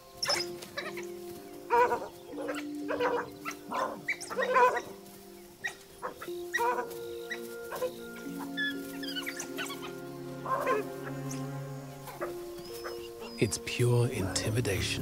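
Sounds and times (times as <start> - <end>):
wild dogs yelping: 0.0 - 13.5
background music: 0.0 - 15.0.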